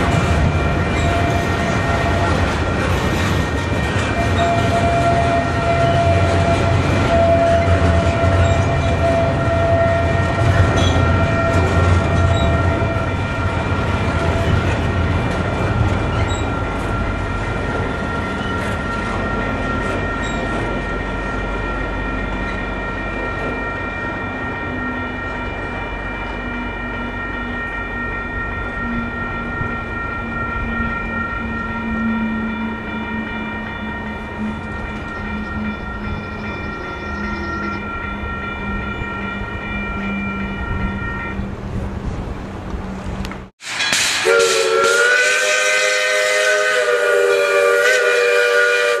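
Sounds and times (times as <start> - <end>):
multi-note train whistle: 0.0 - 2.7, 3.9 - 14.9, 16.5 - 41.4, 43.8 - 49.0
crossing signal bell ringing: 0.0 - 41.8
freight train rumbling: 0.0 - 49.0.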